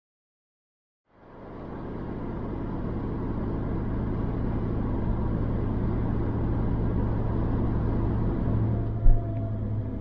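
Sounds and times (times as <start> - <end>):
engine and tyre drone in car: 1.1 - 10.0.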